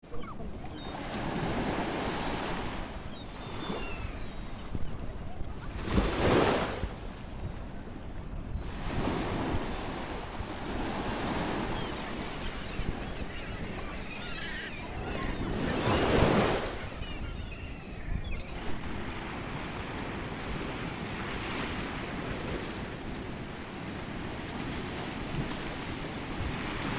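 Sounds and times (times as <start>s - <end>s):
surf washing: 0.0s - 26.9s.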